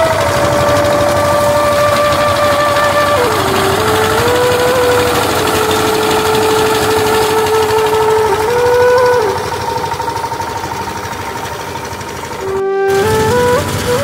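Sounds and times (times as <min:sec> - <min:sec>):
machine engine running: 0:00.0 - 0:14.0
melody of long held notes: 0:00.0 - 0:14.0.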